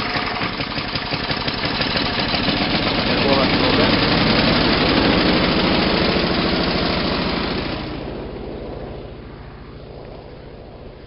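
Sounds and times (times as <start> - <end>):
snowblower engine running: 0.0 - 11.0.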